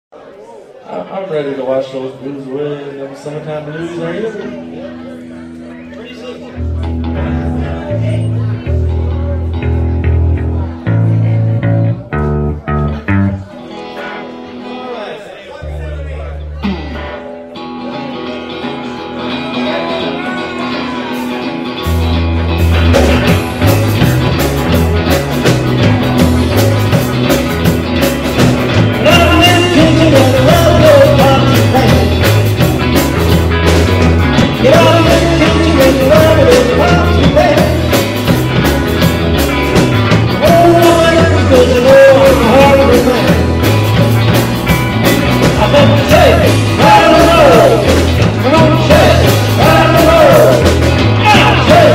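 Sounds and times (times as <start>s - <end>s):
live rock band playing: 3.3s - 51.9s.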